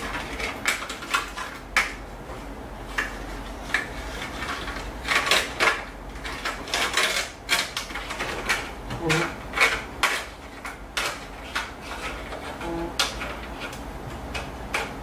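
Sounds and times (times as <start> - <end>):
plastic maze clicks and rattles: 0.0 - 2.0, 2.9 - 15.0.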